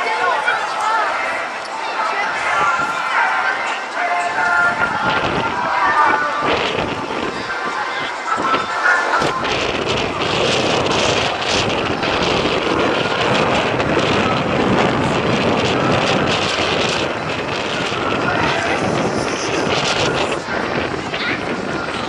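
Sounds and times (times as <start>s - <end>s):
helicopter hovering: 1.9s - 22.0s.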